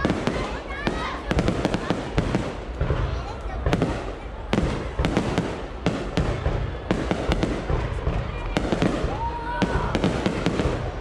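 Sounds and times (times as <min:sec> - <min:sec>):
crowd murmur: 0:00.0 - 0:11.0
fireworks bursting: 0:00.0 - 0:11.0.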